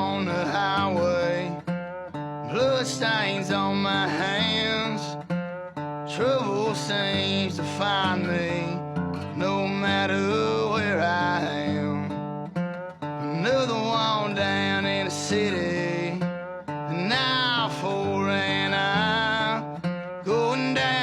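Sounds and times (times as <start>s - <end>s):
country song with acoustic guitar: 0.0s - 21.0s.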